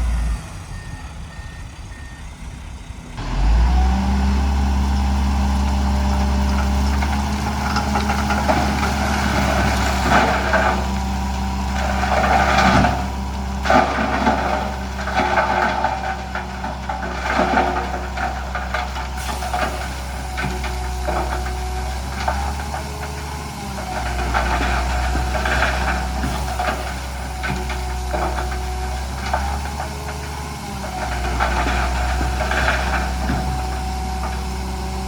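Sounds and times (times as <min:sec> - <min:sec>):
heavy diesel engine running: 0:00.0 - 0:35.0
rattling and scraping: 0:06.0 - 0:35.0.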